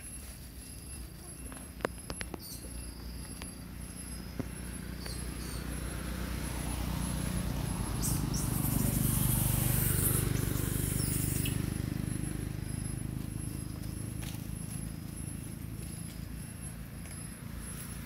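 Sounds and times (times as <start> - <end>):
high insect-like tone: 0.0 - 18.0.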